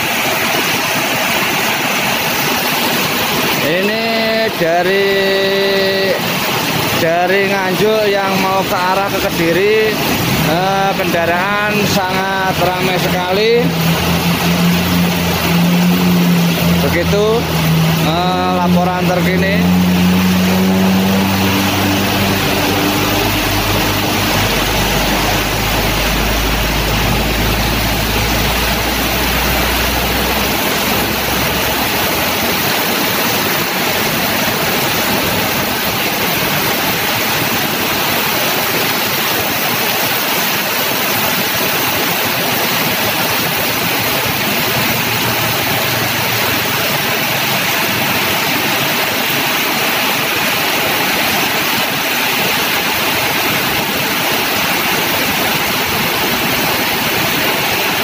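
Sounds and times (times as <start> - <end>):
heavy rain on a road: 0.0 - 58.0
truck engine droning: 0.0 - 58.0.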